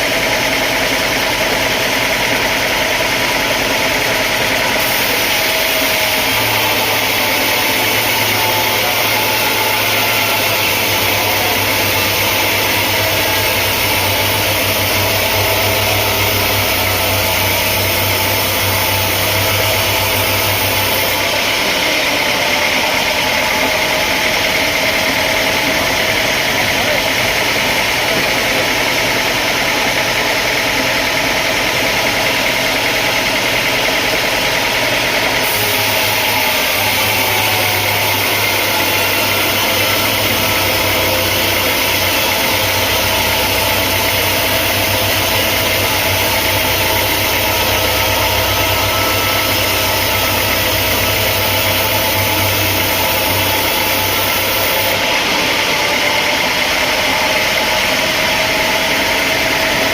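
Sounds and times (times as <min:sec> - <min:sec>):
sawmill engine humming: 0:00.0 - 0:59.9.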